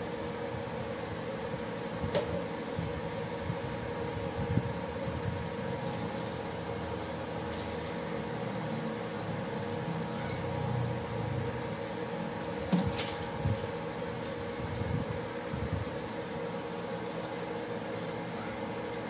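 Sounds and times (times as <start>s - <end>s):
fan-like mechanical hum: 0.0s - 19.0s.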